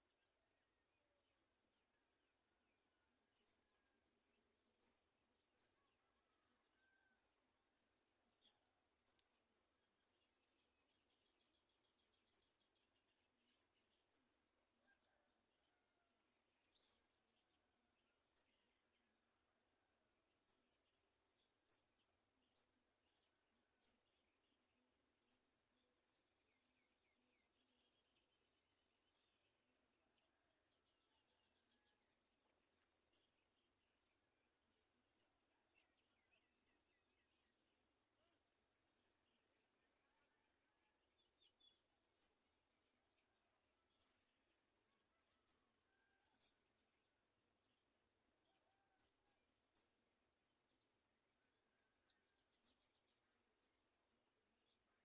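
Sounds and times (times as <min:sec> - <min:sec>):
faint bird chirping: 0:00.0 - 0:19.4, 0:20.0 - 0:55.0.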